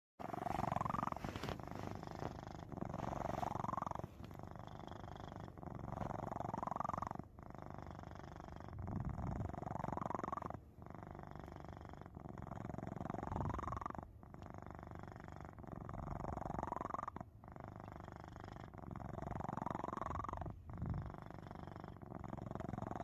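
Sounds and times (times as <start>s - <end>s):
cat snoring: 0.2s - 23.0s.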